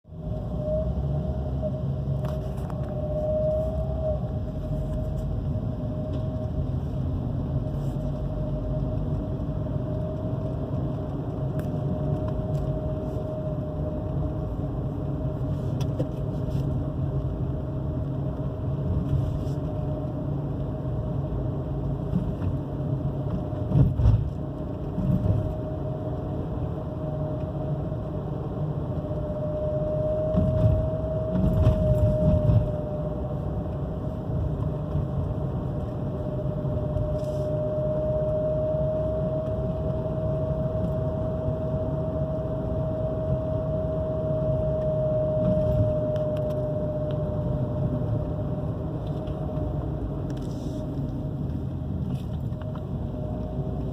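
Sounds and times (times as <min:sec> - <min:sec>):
car engine droning with whine: 0:00.0 - 0:53.9.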